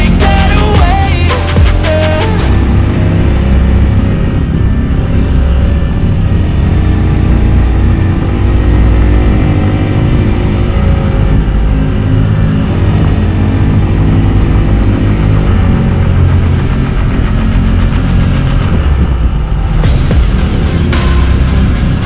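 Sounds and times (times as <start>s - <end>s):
small motorcycle engine running: 0.0s - 22.0s
wind noise on microphone: 2.5s - 21.0s.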